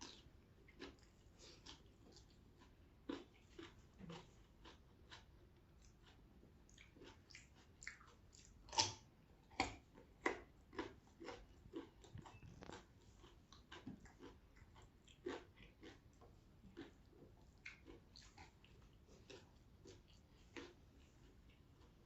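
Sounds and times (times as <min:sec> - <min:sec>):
person chewing crunchy vegetables: 0:00.0 - 0:22.0.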